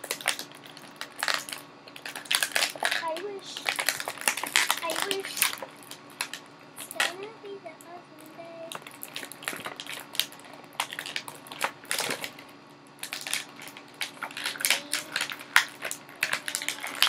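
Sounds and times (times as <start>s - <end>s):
packaging crinkling: 0.0s - 7.1s, 8.7s - 17.0s.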